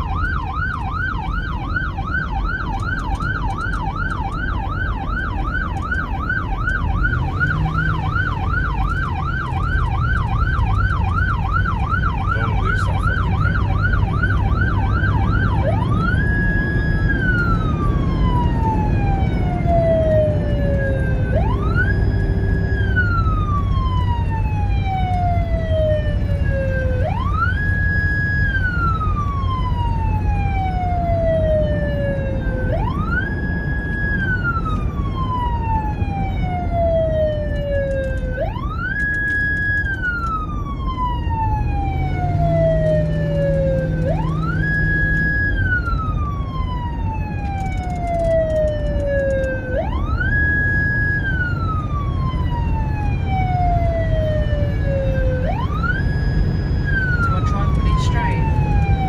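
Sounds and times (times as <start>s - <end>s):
car engine and road rumble: 0.0s - 59.0s
police siren wailing: 0.0s - 59.0s.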